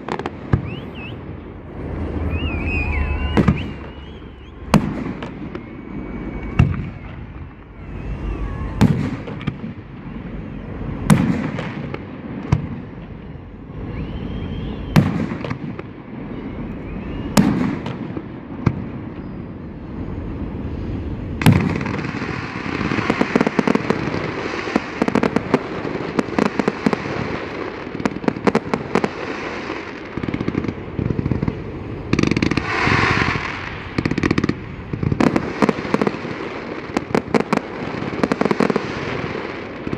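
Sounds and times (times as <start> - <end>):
firework crackling pops: 0.0 - 19.6, 21.3 - 39.9.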